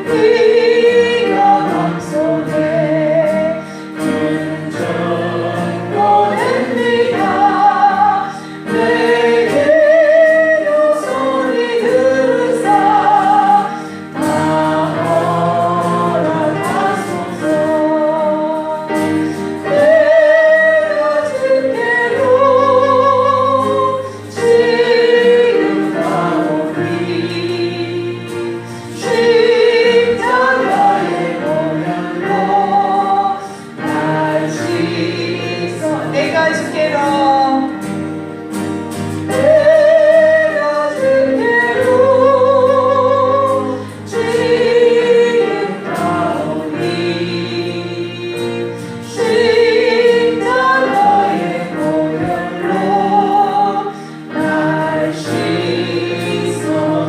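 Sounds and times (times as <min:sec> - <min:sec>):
group singing gospel song: 0:00.0 - 0:57.0
sustained accompaniment: 0:00.0 - 0:57.0.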